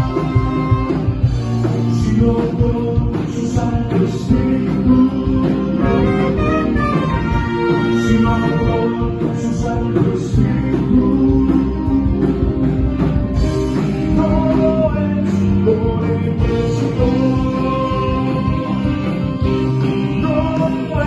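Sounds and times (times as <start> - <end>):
live band with singing: 0.0 - 21.0.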